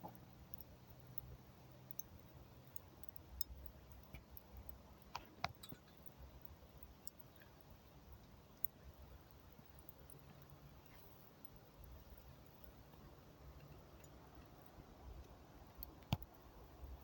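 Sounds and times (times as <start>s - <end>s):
charcoal crackling and popping: 0.0s - 17.0s
low rumble of fire: 0.0s - 17.0s.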